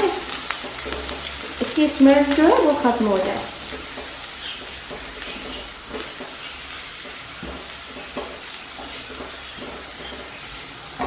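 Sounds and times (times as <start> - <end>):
garlic sizzling in oil: 0.0 - 11.0
spatula scraping pan: 0.3 - 11.0.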